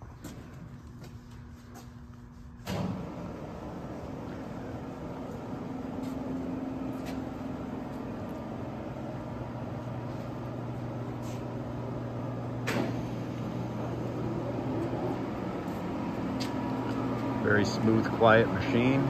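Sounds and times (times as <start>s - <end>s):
lathe running with low hum: 0.0s - 19.0s.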